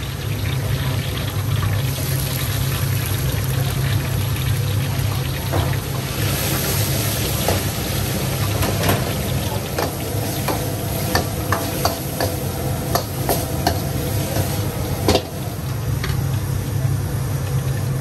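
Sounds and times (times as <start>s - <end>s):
gas burner rumble: 0.0s - 18.0s
vegetables sizzling in a wok: 0.0s - 18.0s.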